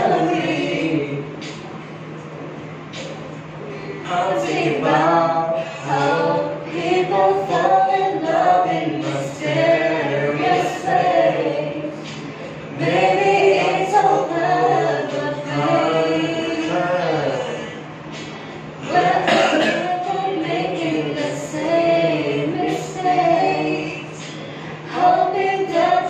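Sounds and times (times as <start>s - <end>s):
woman and man singing a cappella: 0.0s - 1.6s, 4.0s - 18.2s, 18.8s - 26.0s.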